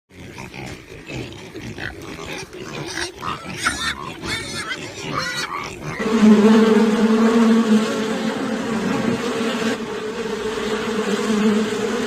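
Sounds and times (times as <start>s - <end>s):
farm animals calling: 0.1s - 10.3s.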